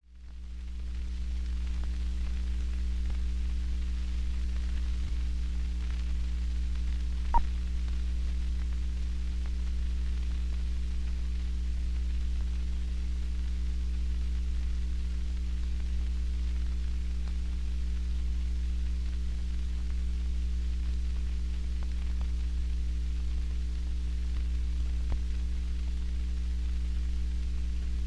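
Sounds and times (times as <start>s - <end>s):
film soundtrack hum and hiss: 0.1s - 28.0s.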